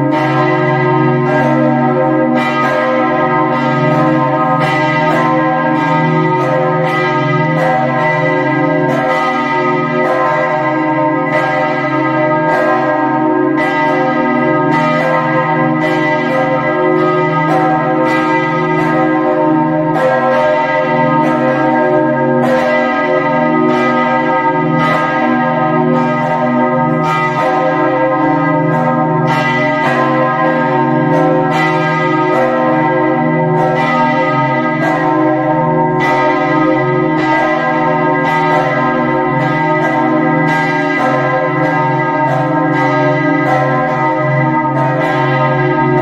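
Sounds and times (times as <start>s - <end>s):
church bells ringing: 0.0s - 46.0s.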